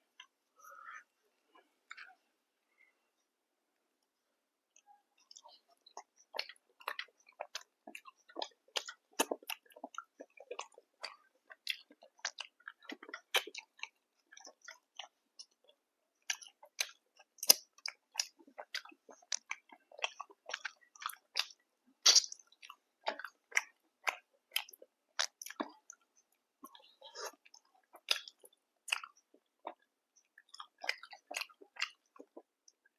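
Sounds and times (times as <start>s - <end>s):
person chewing and crunching food: 0.0s - 2.3s, 4.7s - 32.9s.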